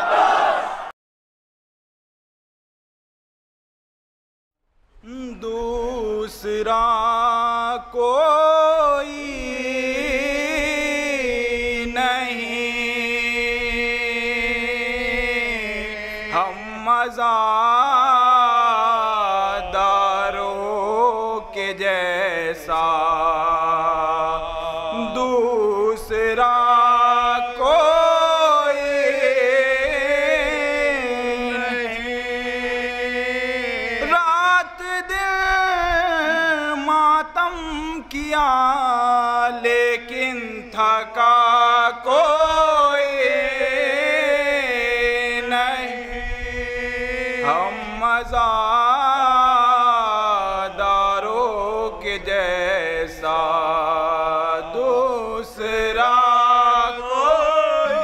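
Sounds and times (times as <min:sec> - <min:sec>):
man chanting into microphone: 0:05.0 - 0:58.0.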